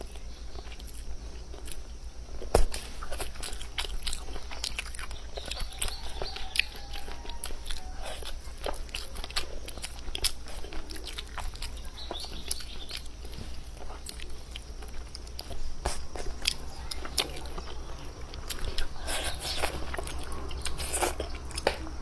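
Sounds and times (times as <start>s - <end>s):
person chewing and crunching: 0.0s - 22.0s.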